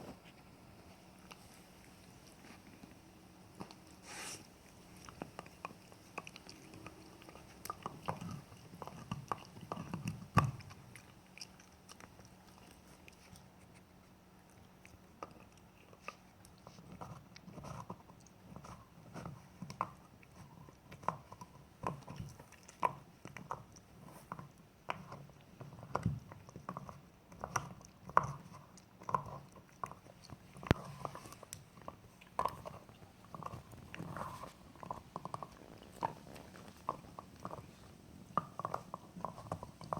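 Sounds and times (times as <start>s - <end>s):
dog chewing a bone: 0.0s - 39.9s.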